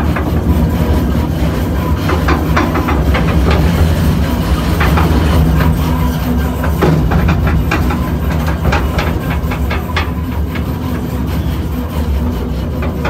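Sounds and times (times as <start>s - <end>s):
mine cars clacking over track: 0.0s - 13.0s.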